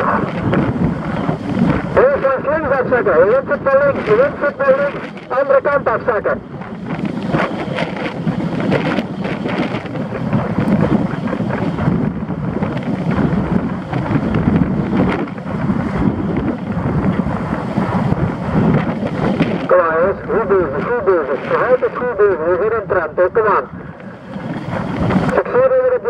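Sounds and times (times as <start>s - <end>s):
car driving noise: 0.0s - 25.6s
wind buffeting microphone: 0.0s - 26.0s.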